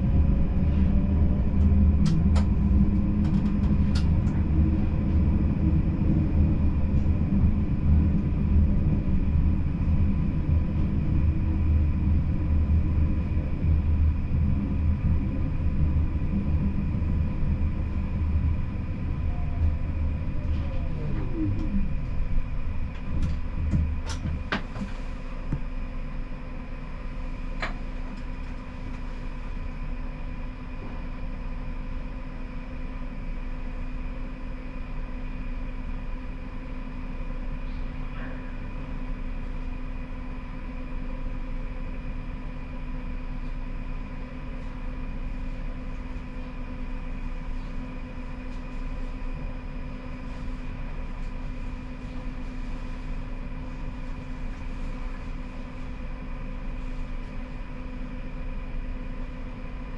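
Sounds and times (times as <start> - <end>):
tram electrical hum: 0.0 - 59.9.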